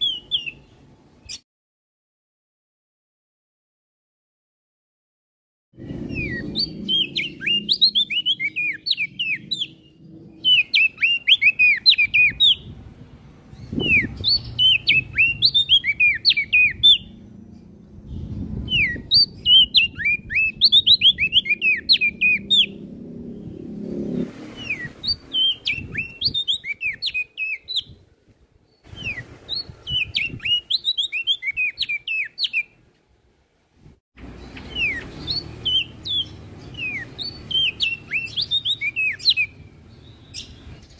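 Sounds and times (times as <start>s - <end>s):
songbird chirping: 0.0s - 1.4s, 5.8s - 33.0s, 34.2s - 40.9s.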